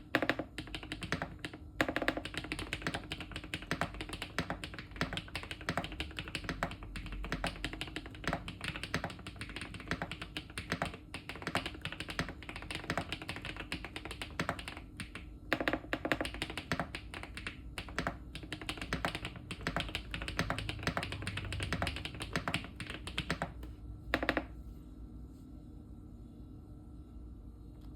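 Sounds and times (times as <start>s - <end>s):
fast mechanical keyboard typing: 0.0s - 24.5s.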